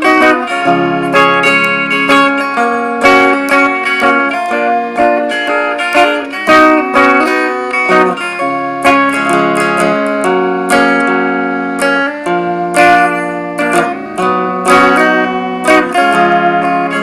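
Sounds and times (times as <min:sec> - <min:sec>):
guitar plucked notes and chords: 0:00.0 - 0:17.0.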